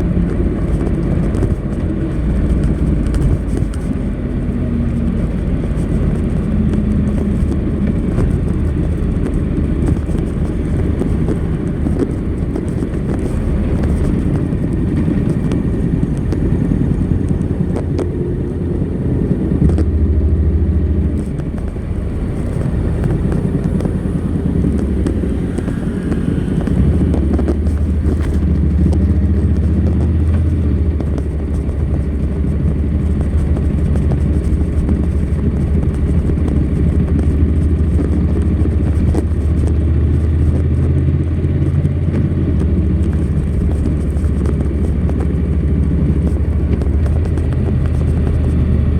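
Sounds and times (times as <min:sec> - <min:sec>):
motorcycle engine drone: 0:00.0 - 0:48.9.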